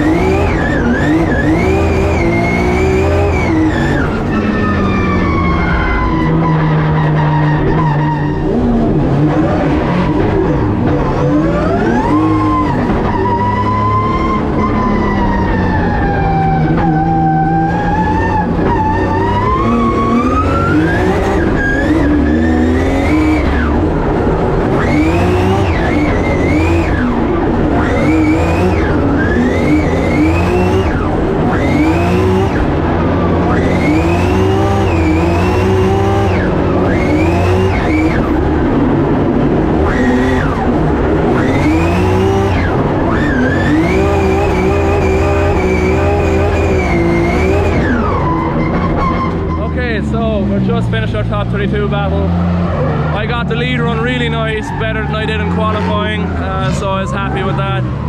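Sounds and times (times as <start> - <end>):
race car engine revving: 0.0 - 58.0
sliding tyres rushing: 0.0 - 58.0.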